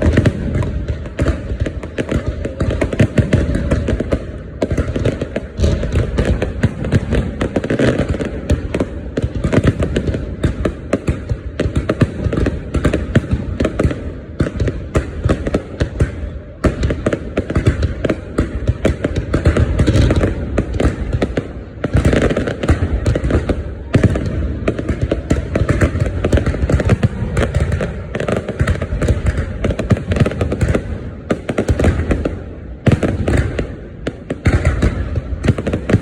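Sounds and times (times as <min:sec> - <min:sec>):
fireworks popping and crackling: 0:00.0 - 0:36.0.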